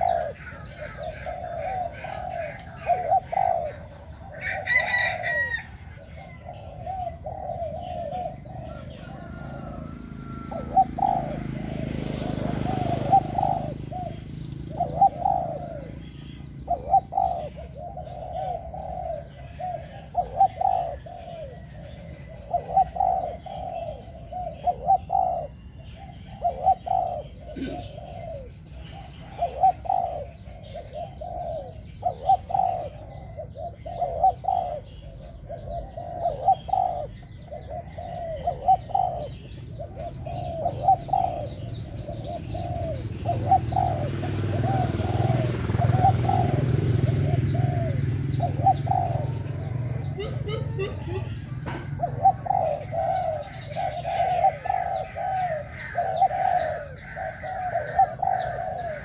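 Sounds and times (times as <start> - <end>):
dove cooing: 0.0 - 59.0
small birds chirping: 0.0 - 59.0.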